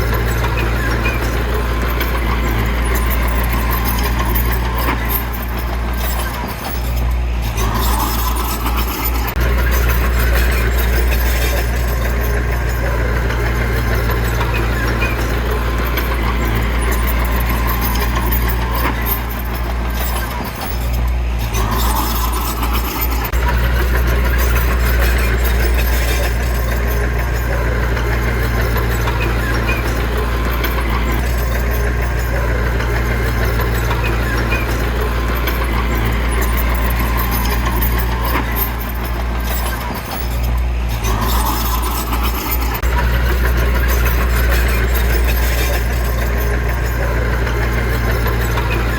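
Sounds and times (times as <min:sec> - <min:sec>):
diesel engine running under load: 0:00.0 - 0:48.9.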